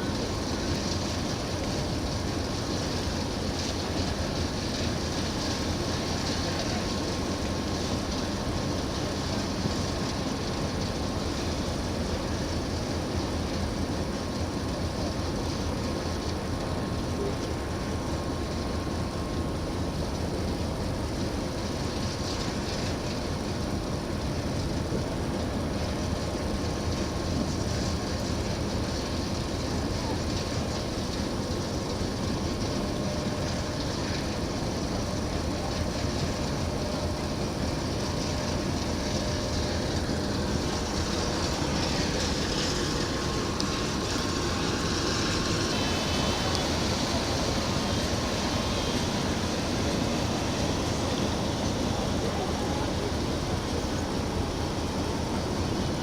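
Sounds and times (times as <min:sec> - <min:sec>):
rumbling machinery: 0:00.0 - 0:56.0
rushing hiss: 0:00.0 - 0:56.0.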